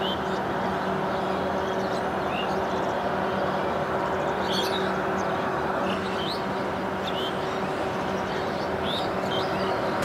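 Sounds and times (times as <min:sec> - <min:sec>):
birds chirping: 0:00.0 - 0:10.0
jet engines running: 0:00.0 - 0:10.0.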